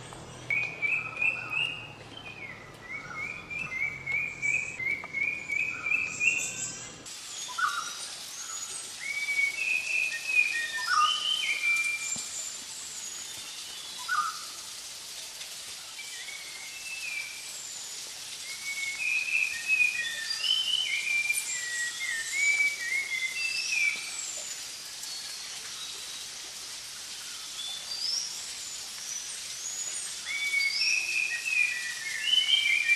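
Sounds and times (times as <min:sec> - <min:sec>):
forest birds singing: 0:00.0 - 0:14.6, 0:15.8 - 0:32.9
high background hiss: 0:00.0 - 0:32.9.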